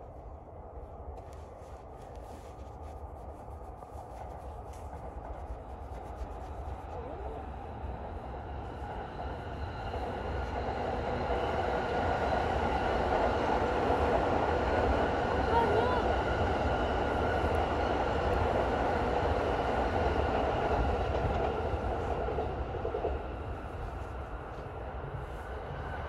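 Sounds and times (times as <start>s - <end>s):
electric train rumbling: 3.8s - 26.0s.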